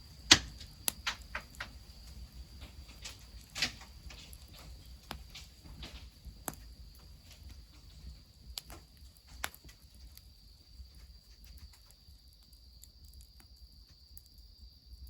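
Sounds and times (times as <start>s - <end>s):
sharp pops of fire: 0.0s - 14.8s
high insect trill: 0.0s - 15.0s
wood fire crackling: 0.0s - 15.0s.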